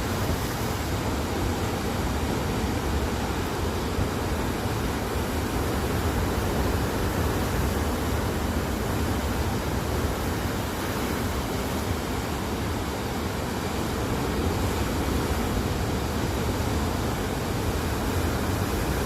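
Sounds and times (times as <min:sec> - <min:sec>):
ocean surf on rocks: 0:00.0 - 0:19.0.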